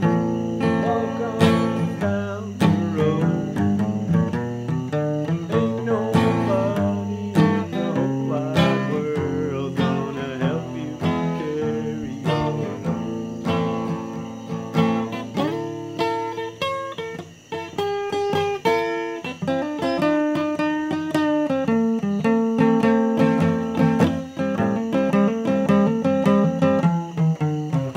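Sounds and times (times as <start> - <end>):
acoustic guitar playing: 0.0 - 27.9.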